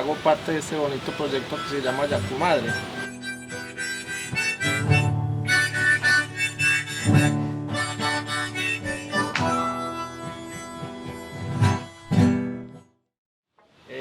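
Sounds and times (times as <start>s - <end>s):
acoustic guitar: 0.0s - 13.0s
harmonica playing held notes: 0.1s - 12.4s.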